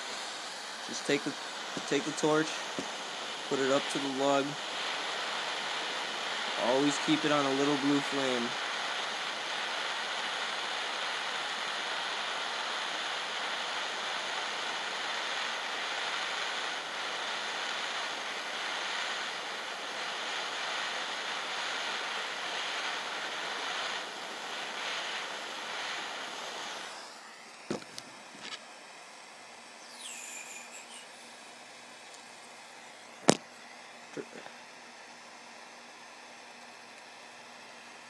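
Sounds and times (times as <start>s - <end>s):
gas torch hissing: 0.0s - 34.5s.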